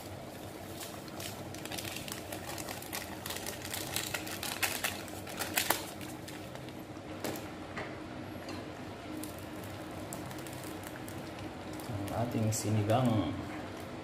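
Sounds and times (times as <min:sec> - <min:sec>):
soup boiling with bubbling pops: 0:00.0 - 0:04.3, 0:04.9 - 0:12.4, 0:13.1 - 0:14.0
low steady hum: 0:00.0 - 0:14.0.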